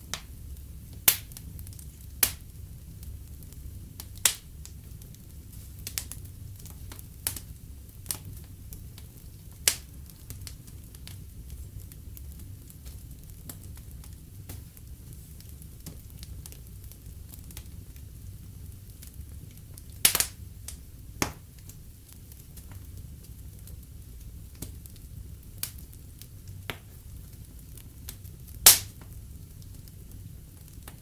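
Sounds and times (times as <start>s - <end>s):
fire crackling and popping: 0.0s - 31.0s
wood fire rumbling: 0.0s - 31.0s.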